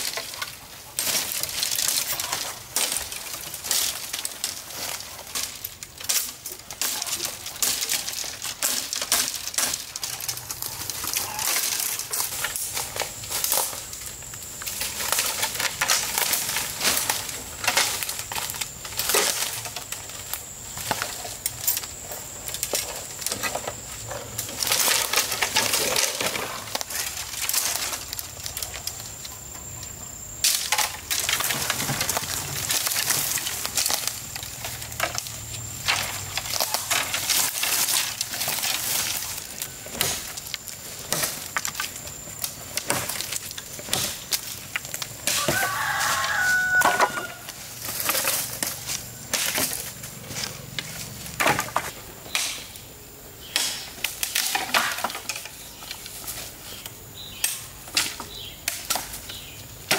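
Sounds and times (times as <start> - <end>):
crunching and rustling: 0.0 - 59.9.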